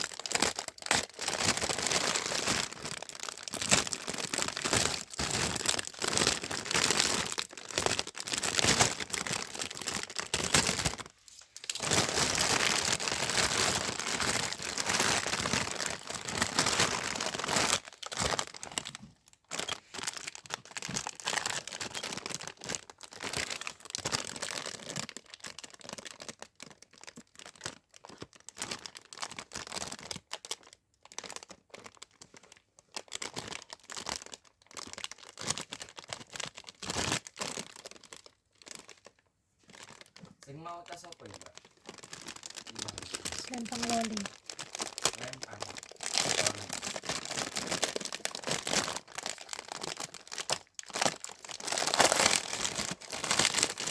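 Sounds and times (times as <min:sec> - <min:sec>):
parcel wrapping crinkling: 0:00.0 - 0:53.9.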